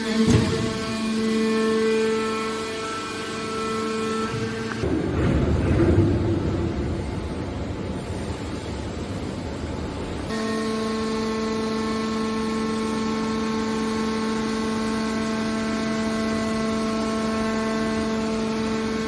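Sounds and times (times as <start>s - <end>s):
hydraulic power unit whining hum: 0.0s - 19.0s.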